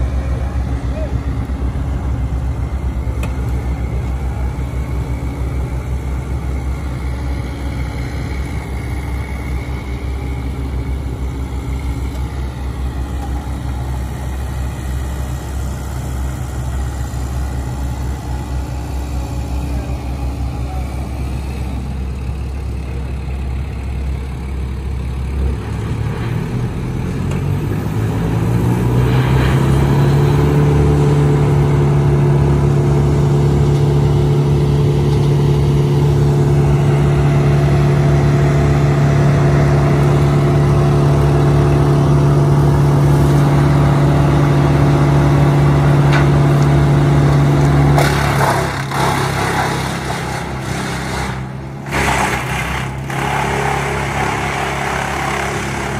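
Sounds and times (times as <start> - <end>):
wood chipper engine: 0.0 - 55.9.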